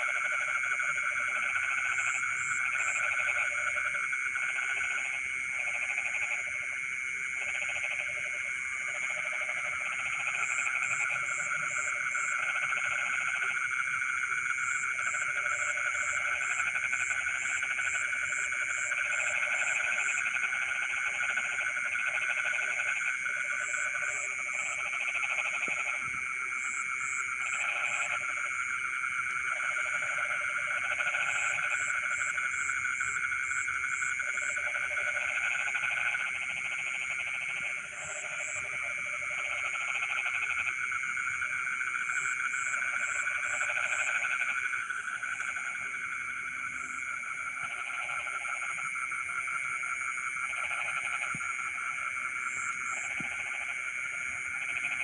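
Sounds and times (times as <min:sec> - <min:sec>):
frogs croaking: 0:00.0 - 0:55.0
frogs trilling: 0:00.0 - 0:55.0.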